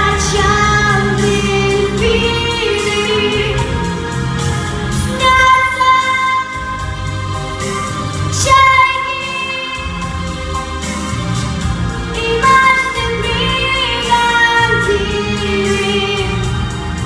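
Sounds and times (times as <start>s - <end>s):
instrumental backing with beat: 0.0s - 17.0s.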